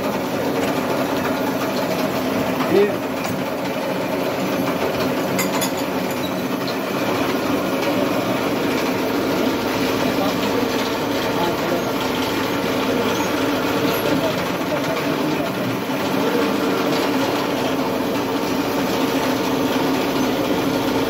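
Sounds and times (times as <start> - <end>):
factory machine humming and whirring: 0.0 - 21.0.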